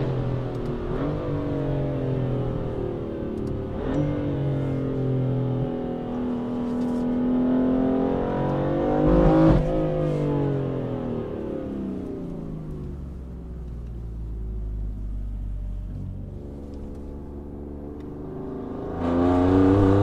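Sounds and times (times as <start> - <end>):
car engine revving and accelerating: 0.0 - 13.0, 14.7 - 20.0.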